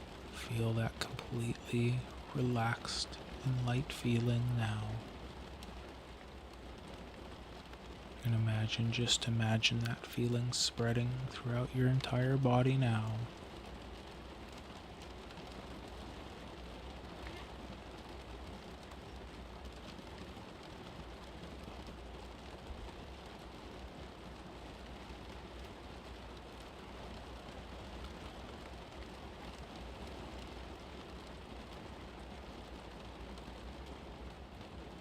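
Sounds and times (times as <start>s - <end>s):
constant low hum: 0.0s - 35.0s
rain hissing: 0.0s - 35.0s.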